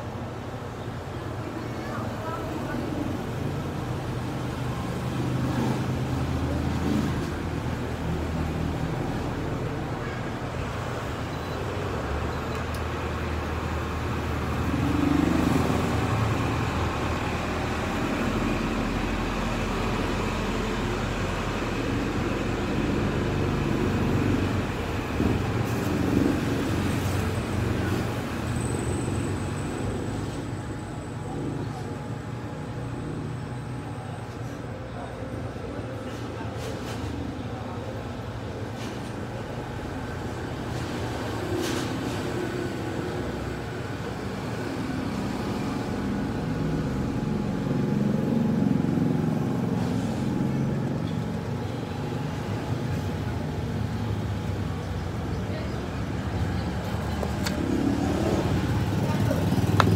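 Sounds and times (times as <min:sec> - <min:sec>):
low traffic rumble: 0:00.0 - 0:59.9.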